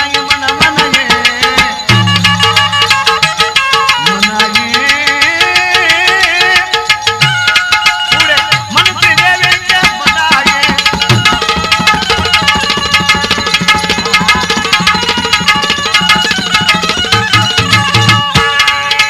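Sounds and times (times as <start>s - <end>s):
held melody notes: 0.0s - 19.0s
tabla playing fast rhythm: 0.0s - 19.0s.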